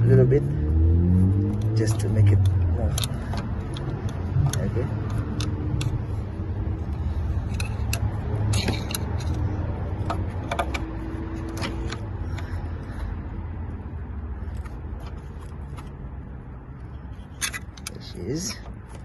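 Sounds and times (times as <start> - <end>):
steady low rumble: 0.0 - 19.0
metallic clicks and scrapes: 1.2 - 13.1, 13.8 - 19.0.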